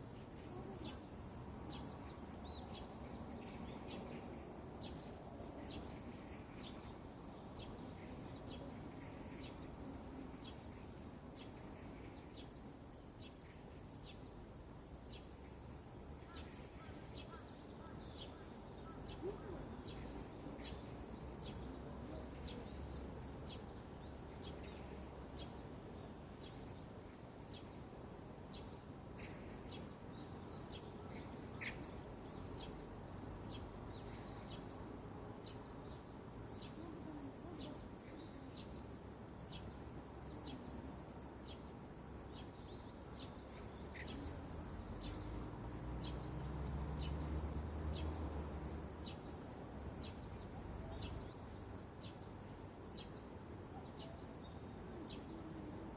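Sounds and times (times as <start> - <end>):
faint background hiss: 0.0 - 55.9
bird chirping: 0.1 - 14.4, 15.0 - 55.9.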